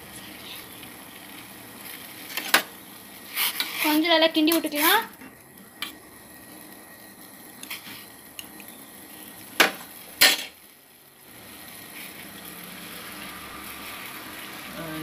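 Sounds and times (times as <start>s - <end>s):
pot boiling: 0.0s - 15.0s.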